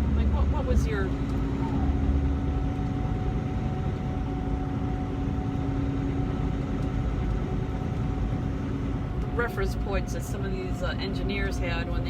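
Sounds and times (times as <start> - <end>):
low hum: 0.0 - 12.0
road noise: 0.0 - 12.0
truck engine drone: 0.0 - 12.0.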